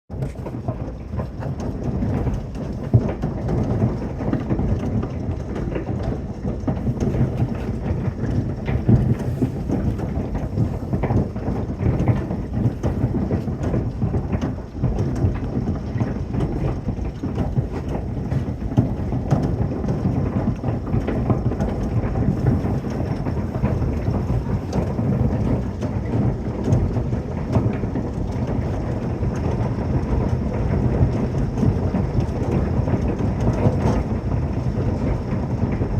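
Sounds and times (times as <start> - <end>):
hail clattering on a roof: 0.1 - 35.9.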